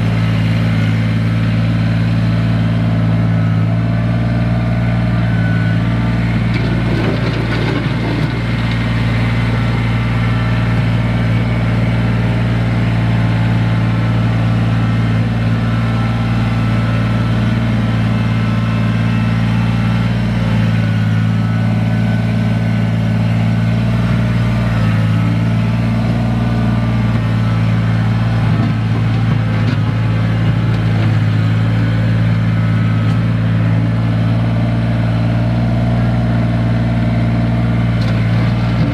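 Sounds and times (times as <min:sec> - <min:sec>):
loader pushing dirt: 0:00.0 - 0:38.9
tractor diesel engine running: 0:00.0 - 0:38.9.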